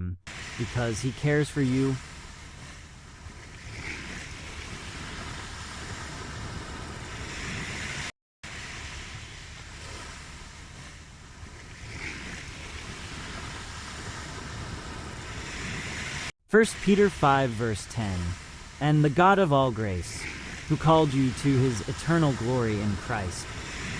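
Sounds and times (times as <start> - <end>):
ocean waves washing ashore: 0.3 - 23.9.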